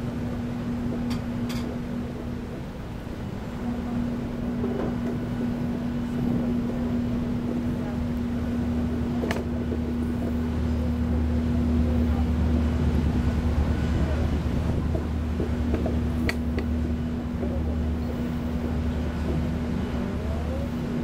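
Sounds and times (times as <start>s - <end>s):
ship machinery drone: 0.0s - 21.0s.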